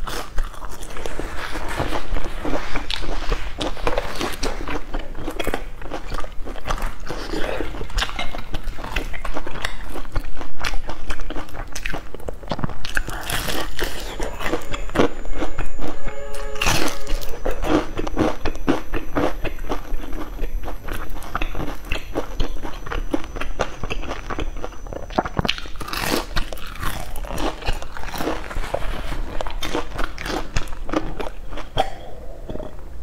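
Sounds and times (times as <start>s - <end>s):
crunching and chewing: 0.0s - 32.8s.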